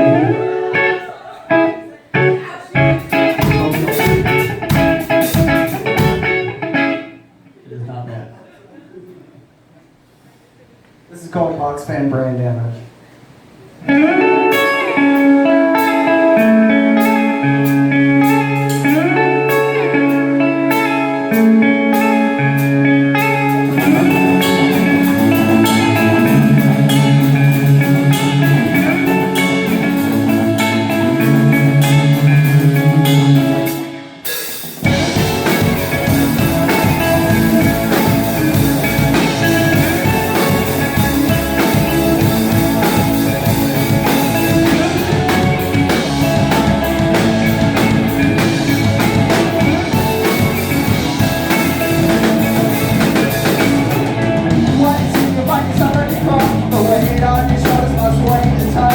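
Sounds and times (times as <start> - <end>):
live rock band playing: 0.0 - 7.2, 13.8 - 58.9.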